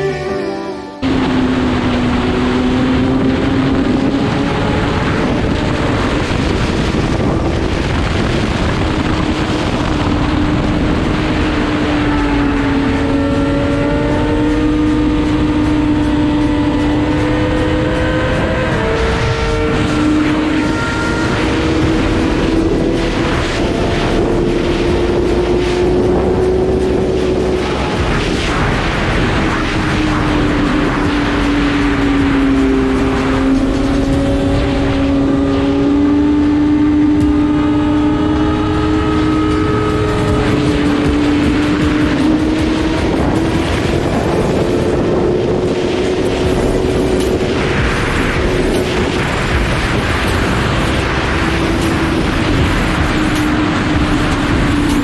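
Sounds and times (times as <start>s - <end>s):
heavy rushing noise: 0.0s - 55.0s
motorcycle engine at high speed: 1.0s - 55.0s.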